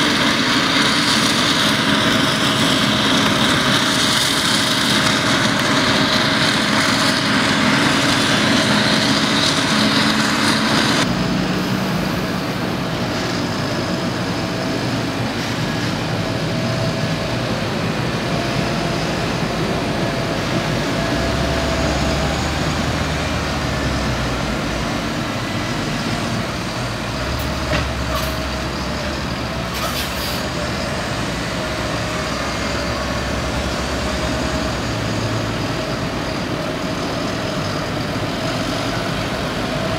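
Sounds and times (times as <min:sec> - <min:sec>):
diesel farm machinery running: 0:00.0 - 0:39.9
loud rushing noise: 0:00.0 - 0:39.9.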